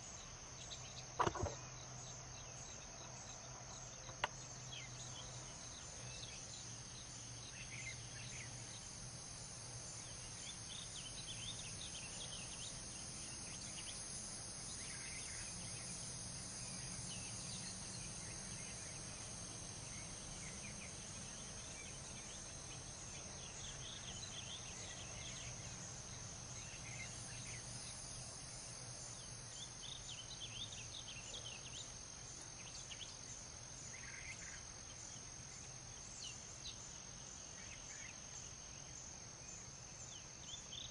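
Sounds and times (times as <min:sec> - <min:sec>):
insects chirring: 0:00.0 - 0:40.9
low distant hum: 0:00.2 - 0:36.0.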